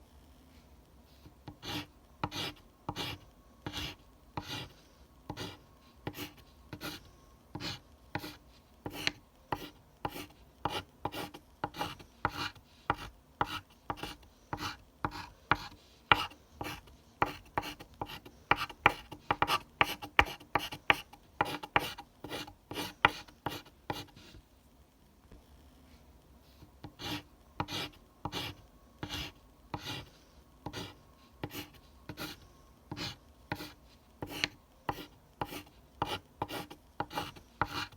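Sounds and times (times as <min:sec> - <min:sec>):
pencil scratching on paper: 0:01.6 - 0:24.4, 0:26.9 - 0:37.9.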